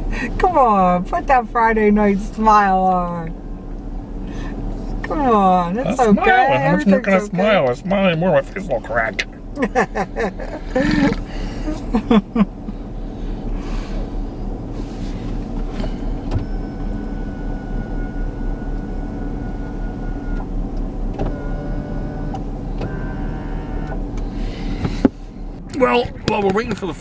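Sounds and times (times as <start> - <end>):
car engine idling: 0.0 - 27.0
air-conditioning fan: 2.1 - 27.0.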